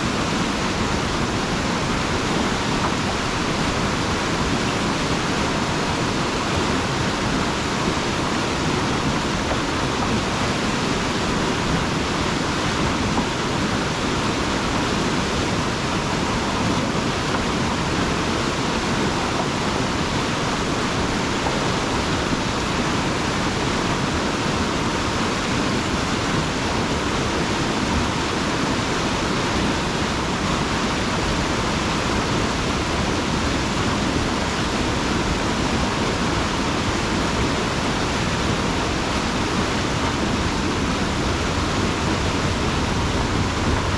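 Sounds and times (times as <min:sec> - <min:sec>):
water rushing through culvert: 0:00.0 - 0:43.9.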